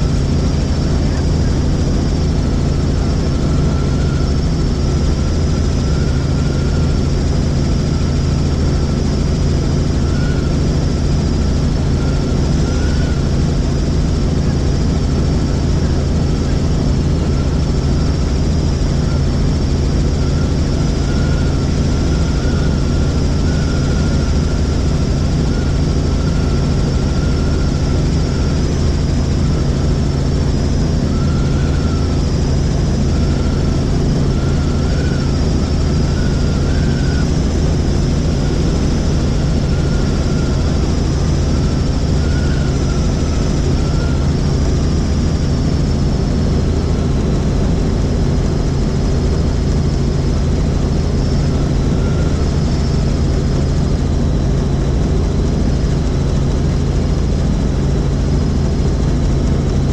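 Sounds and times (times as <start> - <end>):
helicopter drone: 0.0 - 59.9
high whine: 0.0 - 59.9.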